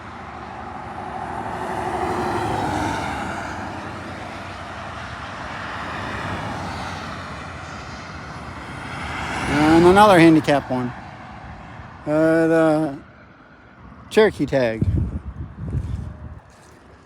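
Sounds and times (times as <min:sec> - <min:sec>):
vehicles driving past: 0:00.0 - 0:17.0.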